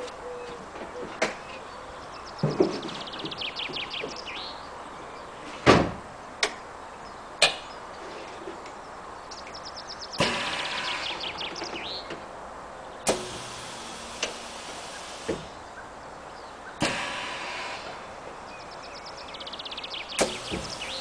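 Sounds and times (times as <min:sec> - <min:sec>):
birds chirping: 0:00.0 - 0:05.6, 0:06.6 - 0:21.0.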